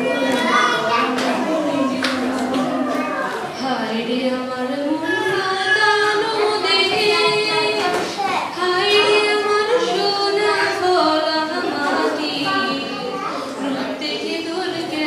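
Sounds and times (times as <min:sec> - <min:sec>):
girls singing into microphones: 0:00.0 - 0:15.0.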